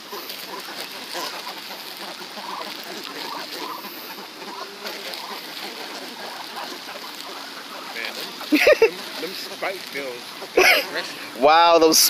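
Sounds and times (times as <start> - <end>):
birds giving soft low calls: 0.0 - 11.4
steady background hiss: 0.0 - 12.0.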